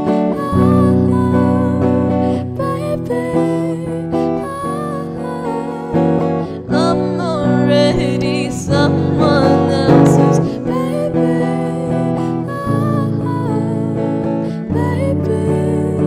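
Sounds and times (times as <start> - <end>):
electric guitar chords: 0.0 - 16.0
girl singing: 0.0 - 16.0.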